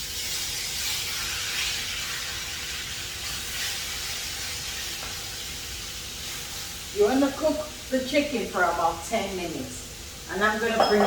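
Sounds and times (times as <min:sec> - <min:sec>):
chicken sizzling in hot oil: 0:00.0 - 0:10.8.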